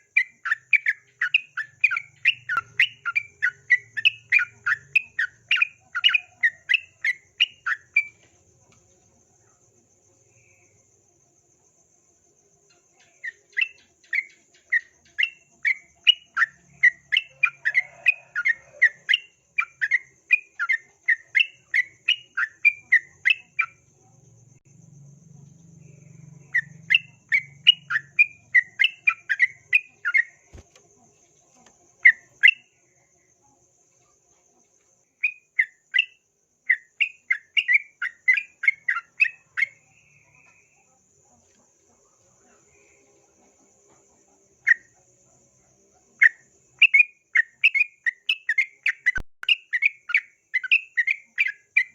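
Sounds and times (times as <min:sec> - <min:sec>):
high insect trill: 0:00.0 - 0:51.9.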